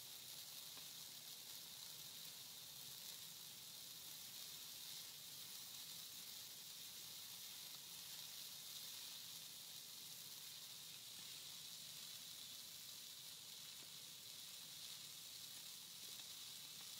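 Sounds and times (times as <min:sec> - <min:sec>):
fire hissing: 0:00.0 - 0:16.9.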